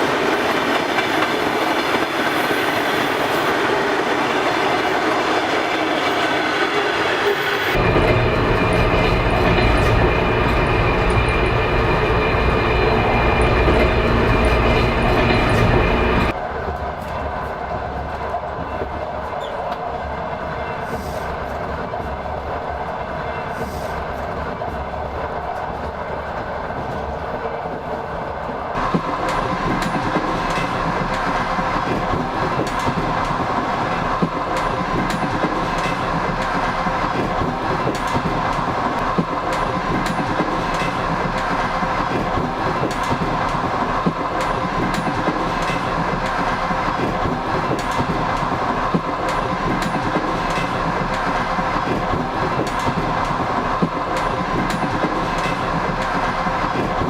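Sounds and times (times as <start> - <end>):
passenger train on rails: 0.0 - 57.0.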